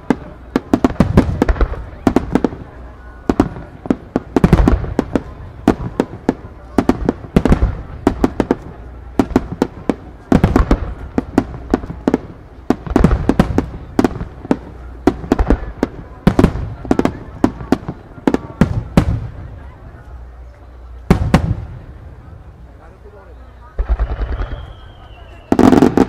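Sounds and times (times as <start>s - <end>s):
continuous low rumble: 0.0s - 26.0s.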